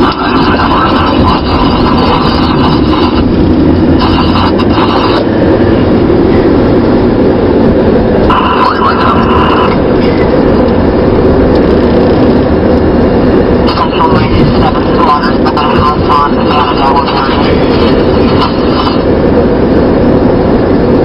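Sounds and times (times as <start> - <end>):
car road and engine noise: 0.0 - 21.0
high hum: 0.0 - 21.0.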